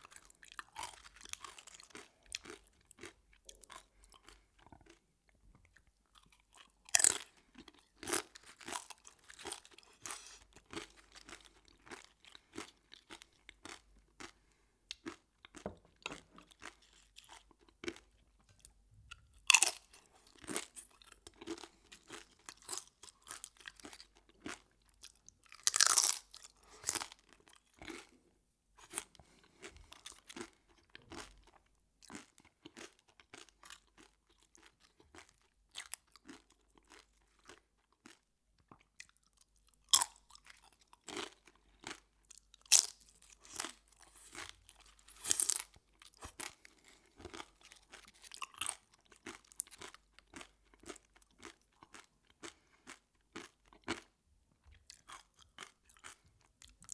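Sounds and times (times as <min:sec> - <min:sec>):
chewing crunchy food: 0:00.0 - 0:56.9.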